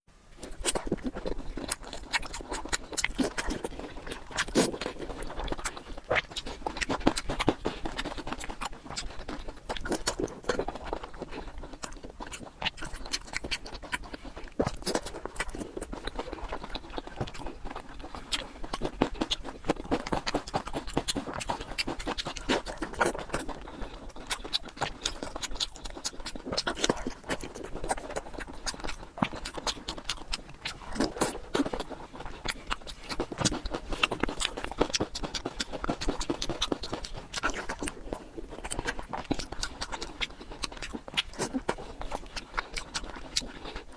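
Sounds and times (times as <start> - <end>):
person chewing and lip-smacking: 0.3 - 43.9.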